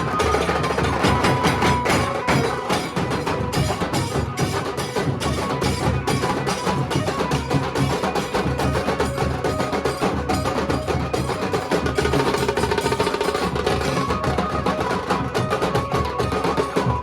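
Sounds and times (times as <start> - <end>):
barrel drums playing fast rhythm: 0.0 - 17.0.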